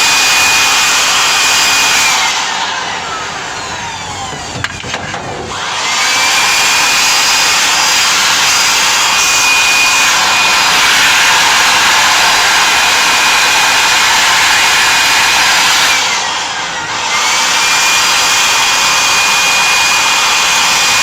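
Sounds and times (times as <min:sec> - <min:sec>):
electric blower running: 0:00.0 - 0:21.0.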